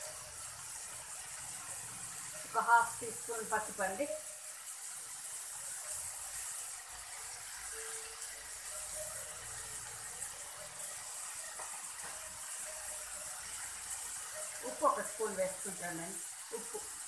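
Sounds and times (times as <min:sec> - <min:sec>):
mushrooms sizzling in a pan: 0:00.0 - 0:17.0.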